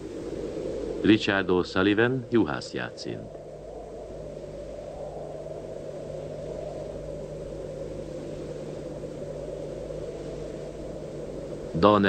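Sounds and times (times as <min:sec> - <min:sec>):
faint hum: 0:00.0 - 0:12.0
low rumbling noise: 0:00.0 - 0:12.0.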